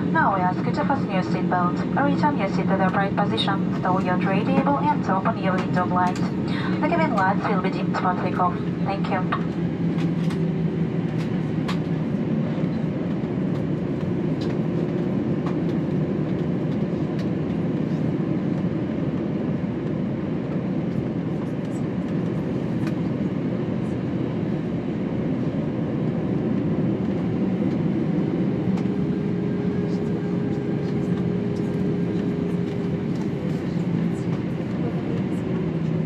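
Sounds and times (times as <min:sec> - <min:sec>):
aircraft cabin rumble and hum: 0:00.0 - 0:36.0.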